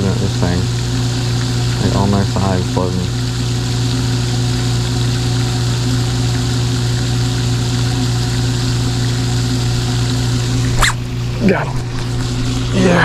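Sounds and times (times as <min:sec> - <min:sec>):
fountain water splashing: 0:00.0 - 0:13.0
low electric motor hum: 0:00.0 - 0:13.0.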